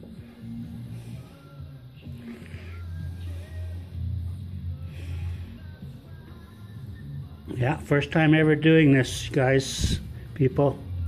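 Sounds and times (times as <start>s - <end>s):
background music with low bass notes: 0.0s - 11.0s.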